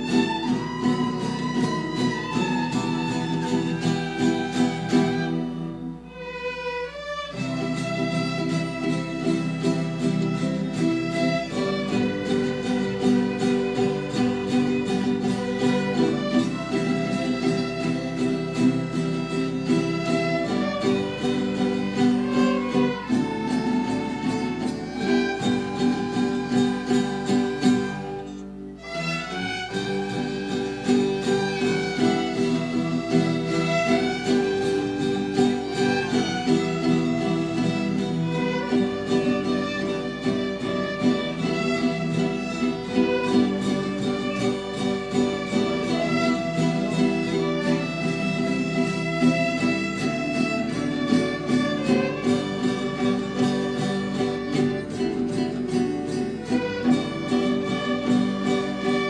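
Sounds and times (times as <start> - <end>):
violins and flutes playing: 0.0 - 55.6, 56.4 - 59.0.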